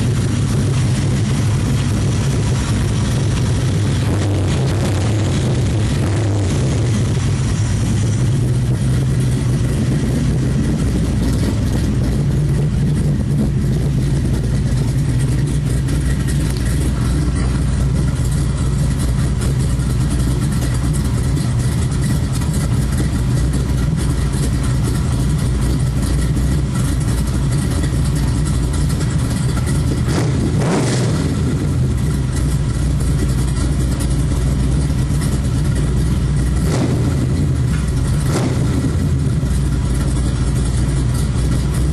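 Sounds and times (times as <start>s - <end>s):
engine idling: 0.0s - 41.9s.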